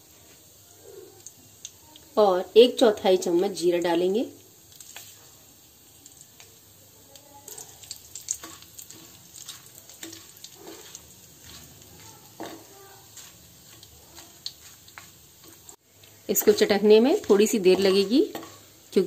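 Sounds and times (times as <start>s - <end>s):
spices sizzling in ghee: 0.0s - 19.0s.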